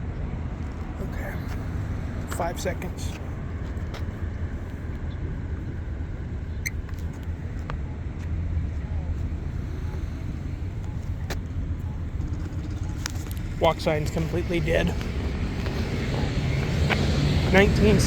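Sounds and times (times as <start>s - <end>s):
passing cars rumbling: 0.0s - 18.0s.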